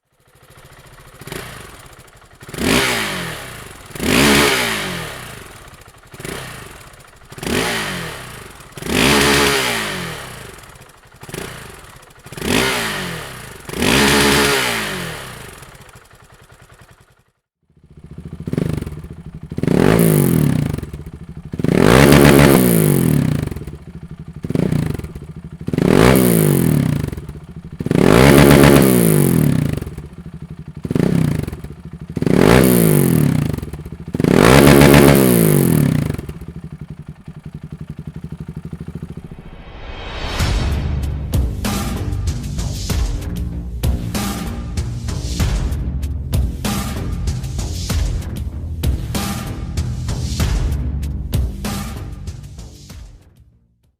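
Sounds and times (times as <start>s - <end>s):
motorcycle engine revving: 0.1s - 40.5s, 41.3s - 53.0s.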